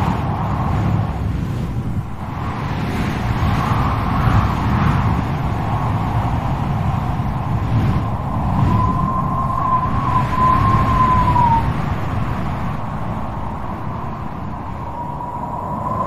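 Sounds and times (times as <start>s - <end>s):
strong wind howling: 0.0s - 16.0s.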